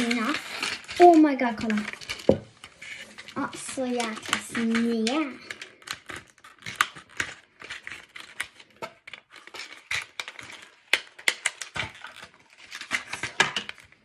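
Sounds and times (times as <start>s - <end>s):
plastic nails clicking in packaging: 0.0s - 14.0s
plastic packaging crinkling: 0.0s - 14.0s.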